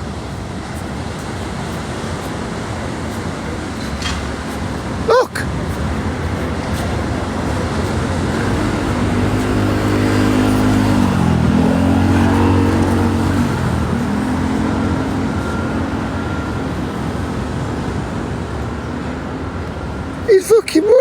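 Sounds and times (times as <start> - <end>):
low traffic rumble: 0.0 - 21.0
vehicle engine passing close: 0.1 - 20.2.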